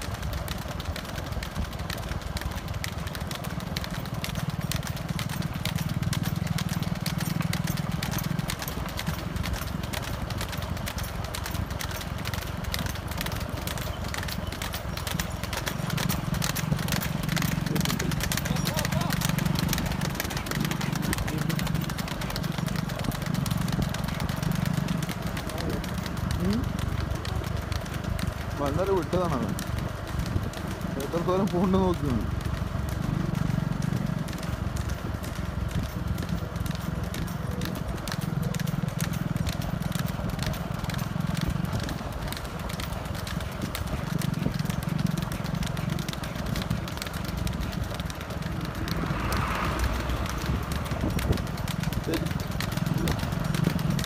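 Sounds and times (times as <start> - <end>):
hooves trotting on asphalt: 0.0 - 54.0
small vehicle engine running: 0.0 - 54.0.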